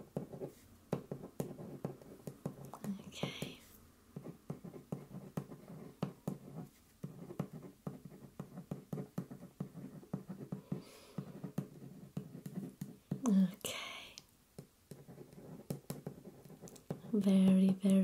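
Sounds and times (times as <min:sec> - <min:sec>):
pen scratching on paper: 0:00.0 - 0:13.2, 0:14.9 - 0:18.0.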